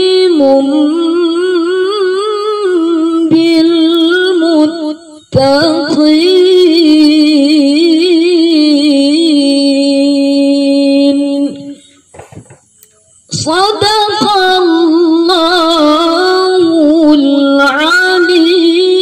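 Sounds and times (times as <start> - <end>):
woman reciting melodically: 0.0 - 19.0.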